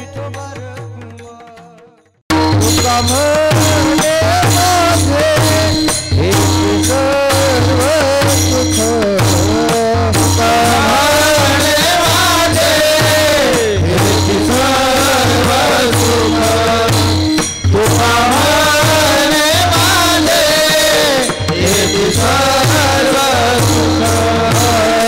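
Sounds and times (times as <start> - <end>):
jingling percussion: 0.0 - 25.0
man singing devotional melody: 0.0 - 25.0.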